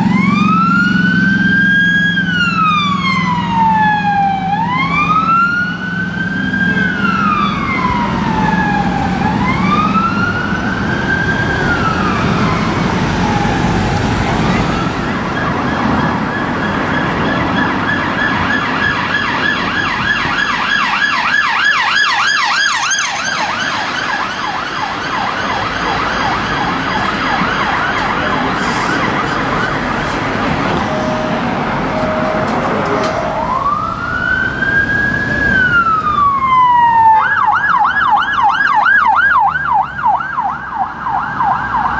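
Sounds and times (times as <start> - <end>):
city traffic: 0.0 - 41.9
siren wailing: 0.0 - 41.9.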